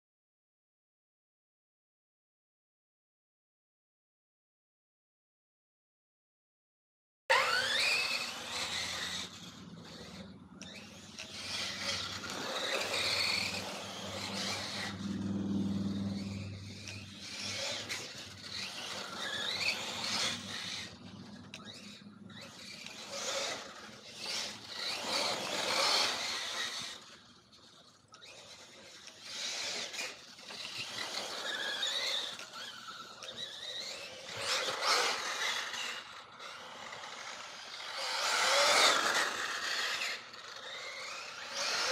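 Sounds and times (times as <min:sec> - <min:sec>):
rc car motor whining: 0:07.3 - 0:41.9.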